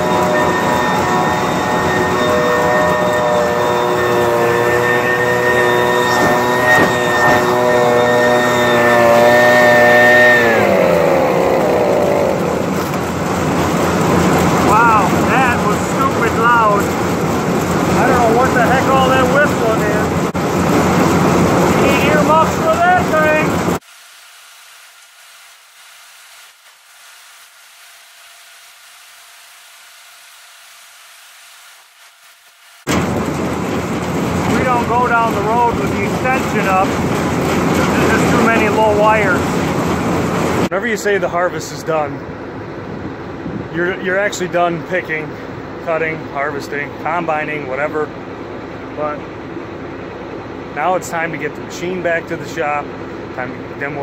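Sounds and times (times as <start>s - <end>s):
combine harvester machine whine: 0.0s - 54.0s.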